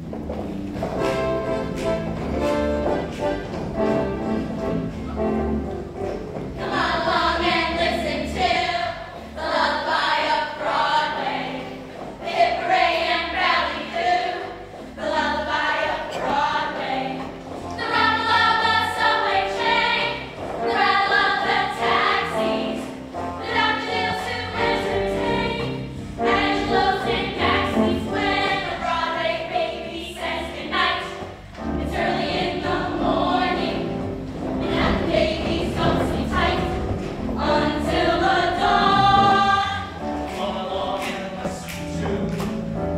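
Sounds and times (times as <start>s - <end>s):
choir singing: 6.6s - 17.2s, 17.8s - 42.3s.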